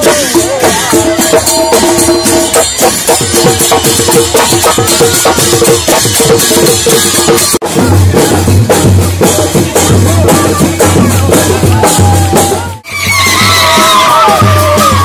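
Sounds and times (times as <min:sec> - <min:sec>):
folk music with fast drumming: 0:00.0 - 0:15.0.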